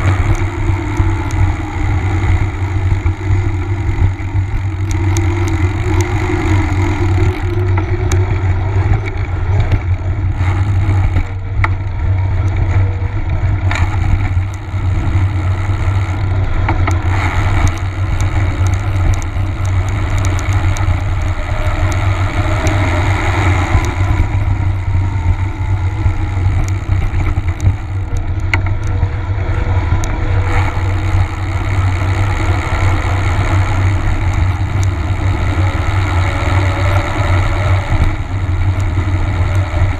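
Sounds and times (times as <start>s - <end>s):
tyres humming on pavement: 0.0s - 39.9s.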